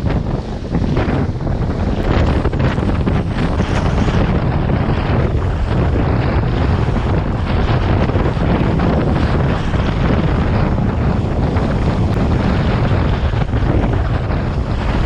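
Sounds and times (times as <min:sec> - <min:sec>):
water rushing and slapping: 0:00.0 - 0:15.0
wind buffeting microphone: 0:00.0 - 0:15.0.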